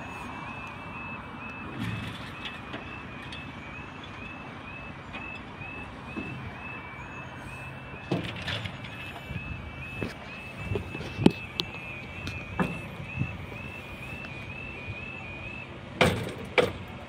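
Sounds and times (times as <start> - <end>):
level crossing alarm warbling: 0.0 - 15.8
vehicle engine humming: 0.0 - 17.0.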